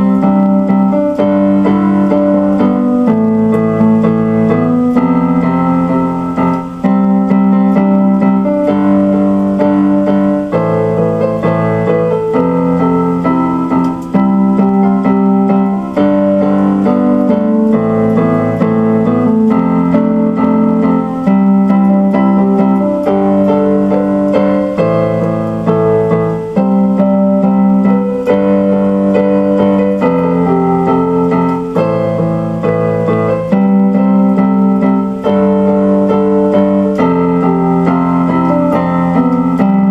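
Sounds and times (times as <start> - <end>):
electric piano chords: 0.0 - 39.9.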